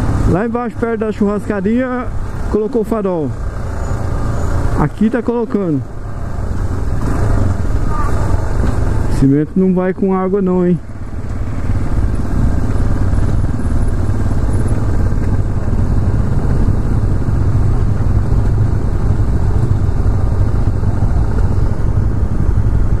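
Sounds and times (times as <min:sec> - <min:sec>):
motorcycle engine rumble: 0:00.0 - 0:23.0
road and traffic noise: 0:00.0 - 0:23.0.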